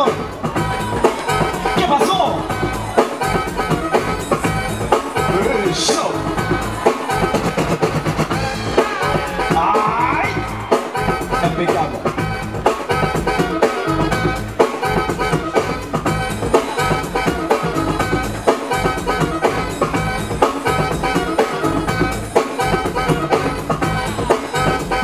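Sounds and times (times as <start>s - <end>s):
breakbeat music: 0.0s - 25.0s.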